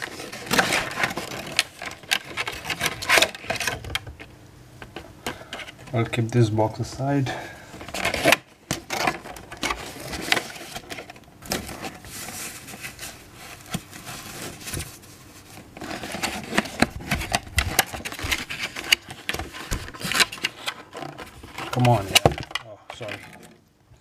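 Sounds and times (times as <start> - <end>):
plastic packaging crackling: 0.0 - 4.3, 7.6 - 23.6.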